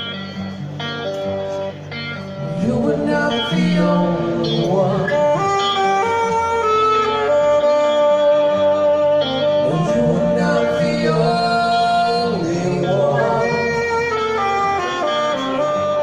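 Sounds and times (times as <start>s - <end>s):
live rock band playing: 0.0s - 16.0s
person singing: 2.4s - 16.0s.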